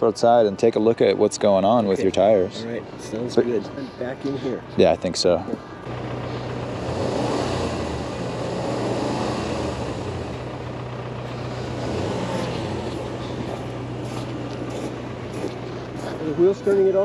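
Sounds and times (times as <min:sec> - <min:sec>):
truck engine droning: 0:01.8 - 0:17.0.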